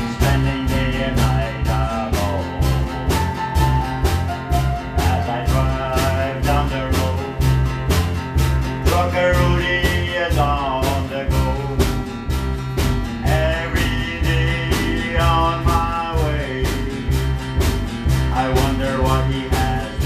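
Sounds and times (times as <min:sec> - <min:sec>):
country music with guitar: 0:00.0 - 0:20.0.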